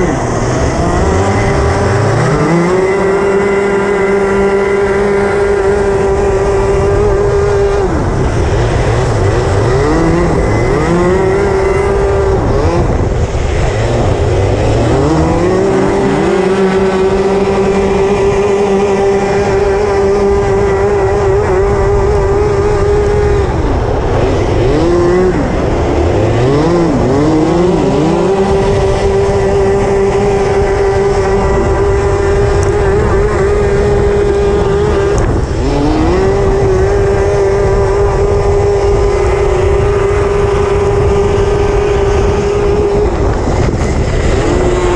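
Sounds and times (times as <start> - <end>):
kart engine at full throttle: 0.0 - 44.9
other kart engines: 0.0 - 44.9.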